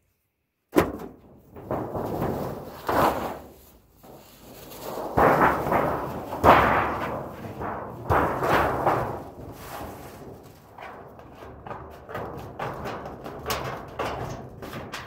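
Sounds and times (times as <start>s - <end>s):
tin sheet rattling as it buckles: 0.7s - 15.0s.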